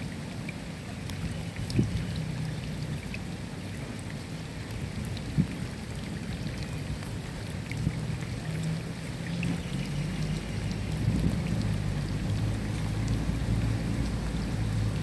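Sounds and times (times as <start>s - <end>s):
steady rain pattering: 0.0s - 15.0s.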